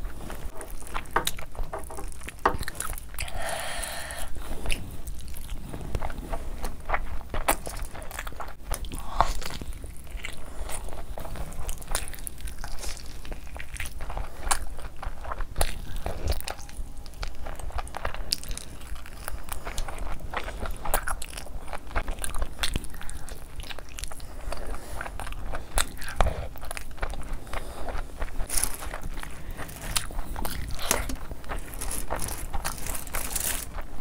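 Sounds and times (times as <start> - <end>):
person chewing meat off bone: 0.3 - 34.0.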